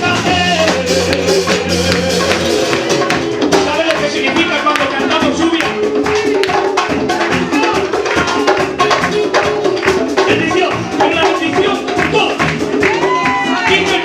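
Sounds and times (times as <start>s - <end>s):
upbeat praise music: 0.0s - 14.0s.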